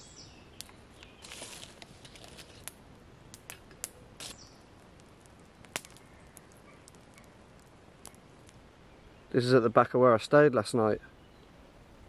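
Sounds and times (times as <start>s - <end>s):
campfire crackling: 0.0s - 10.4s
faint steady hiss: 0.0s - 12.0s.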